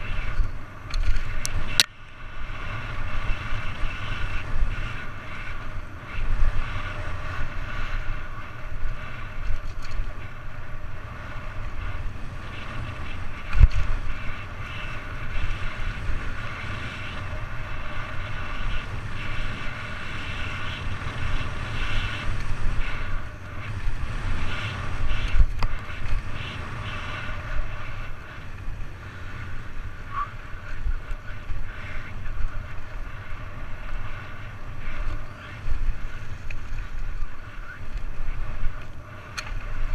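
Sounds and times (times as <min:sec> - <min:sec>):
bike rumbling and rattling: 0:00.0 - 0:39.9
wind buffeting microphone: 0:00.0 - 0:39.9.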